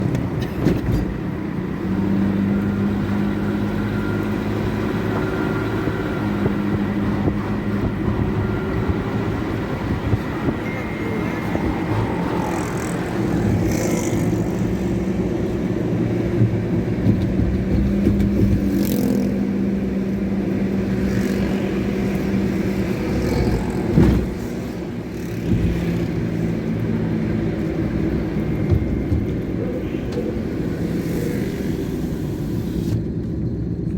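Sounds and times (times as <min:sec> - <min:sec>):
car and motorbike engines passing: 0:01.1 - 0:33.0.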